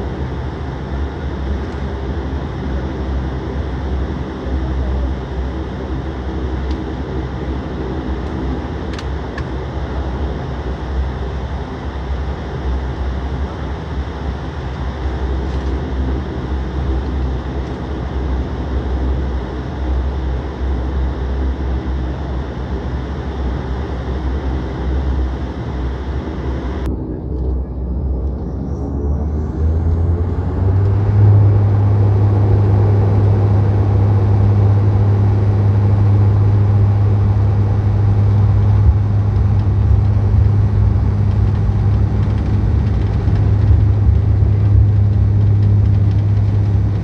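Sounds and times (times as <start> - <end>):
airliner engines humming: 0.0 - 47.0.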